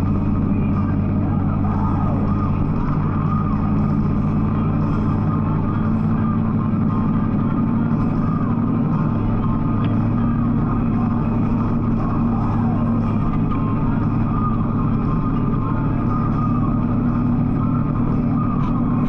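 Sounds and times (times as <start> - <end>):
motorcycle engine cruising: 0.0 - 19.0
road noise: 0.0 - 19.0.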